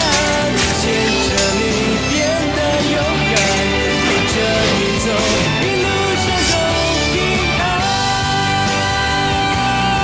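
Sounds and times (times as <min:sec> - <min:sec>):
pop song with singer: 0:00.0 - 0:10.0.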